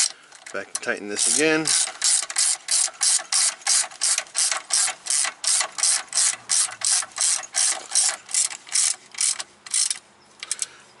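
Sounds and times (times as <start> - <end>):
socket ratchet clicking: 0.0 - 10.7.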